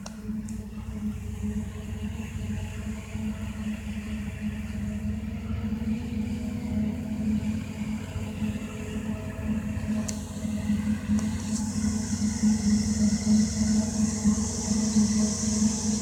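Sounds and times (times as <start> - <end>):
distant diesel engine drone: 0.0 - 16.0.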